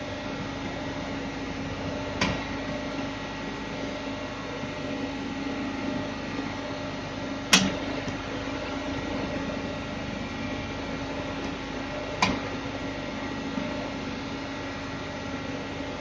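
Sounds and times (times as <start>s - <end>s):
electrical hum and fan noise: 0.0s - 16.0s.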